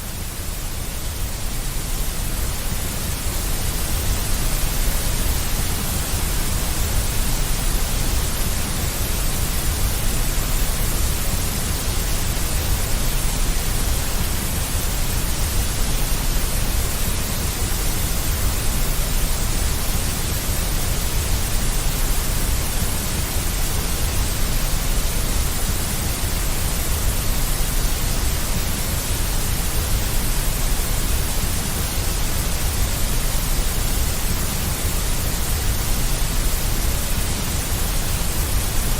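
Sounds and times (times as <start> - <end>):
constant hiss: 0.0 - 38.9.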